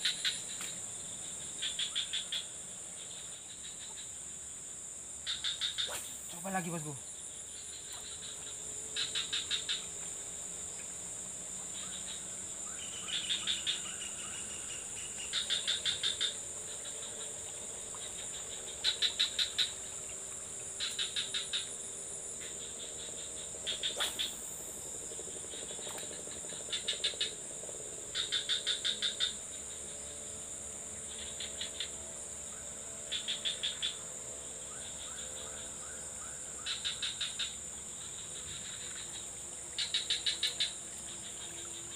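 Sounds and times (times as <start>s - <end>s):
high-pitched insect drone: 0.0s - 41.9s
rapid insect chirps: 0.0s - 41.9s.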